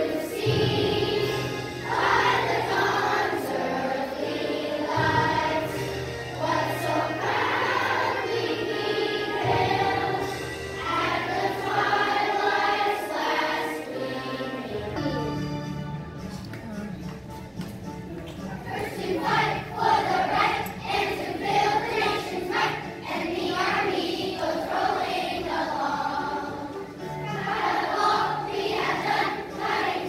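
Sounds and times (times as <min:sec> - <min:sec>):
children's choir singing: 0:00.0 - 0:15.8, 0:18.5 - 0:30.0.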